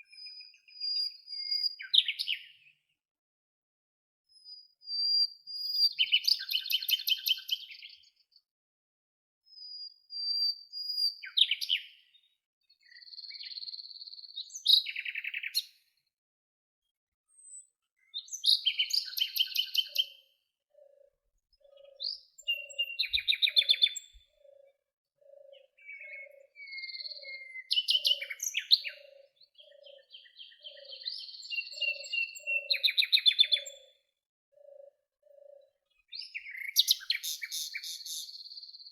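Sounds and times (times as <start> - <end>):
songbirds trilling and whistling: 0.0 - 3.0, 4.3 - 8.5, 9.5 - 16.1, 17.3 - 38.9.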